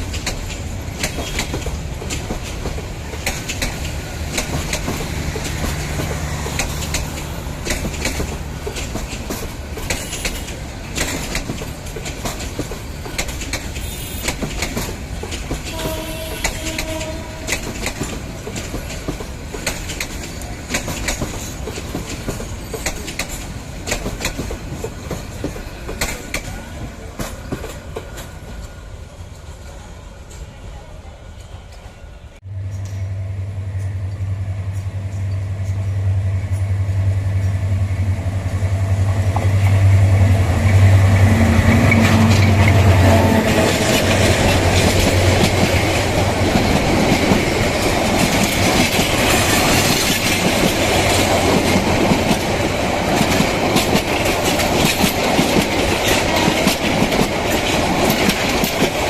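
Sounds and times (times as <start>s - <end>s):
train wheels clicking over rail joints: 0.0s - 28.9s, 33.7s - 59.0s
train approaching rumble: 0.0s - 59.0s.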